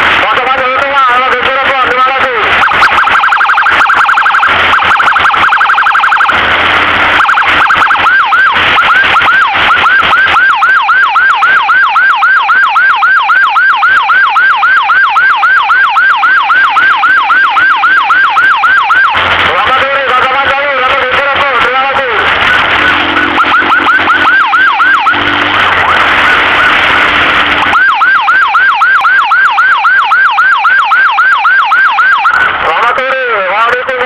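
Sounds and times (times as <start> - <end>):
electronic siren: 0.0 - 32.6.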